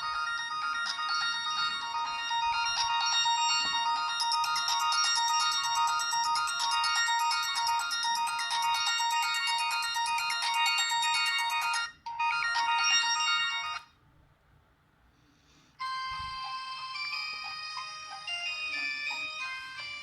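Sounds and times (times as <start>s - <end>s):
mobile phone ringtone melody: 0.0s - 13.9s, 15.8s - 20.0s.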